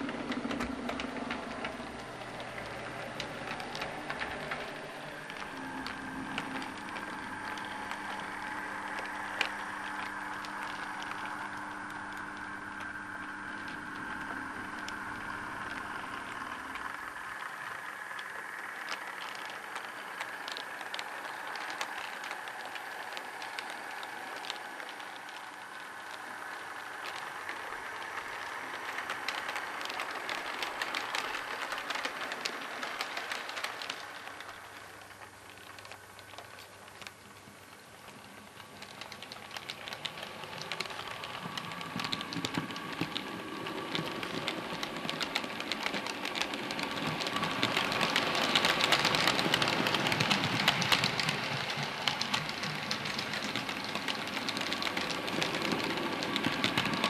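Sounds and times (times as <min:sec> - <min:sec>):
model train motor whine: 0:00.0 - 0:57.0
wheels clicking over rail joints: 0:00.0 - 0:57.0.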